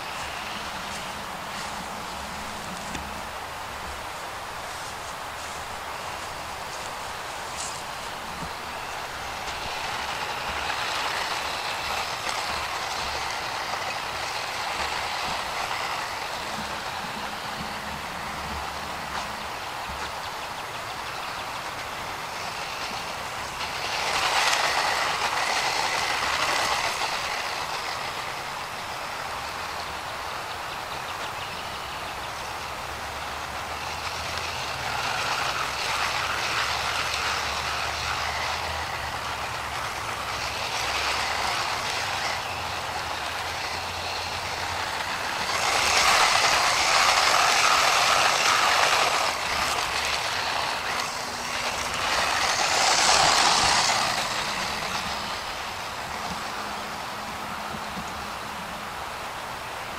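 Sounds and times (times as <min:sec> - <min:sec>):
tyre noise: 0:00.0 - 0:58.8
toy truck motor whine: 0:00.0 - 0:59.9.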